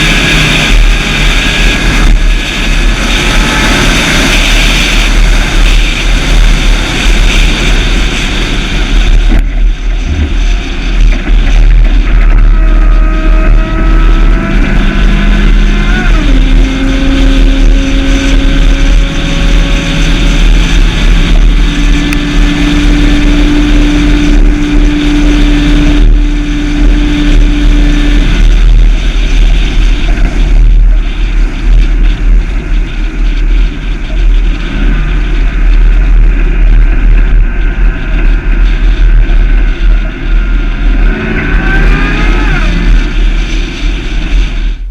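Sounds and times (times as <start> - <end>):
engine low rumble: 0.0 - 44.9
moaning whine: 0.0 - 44.9.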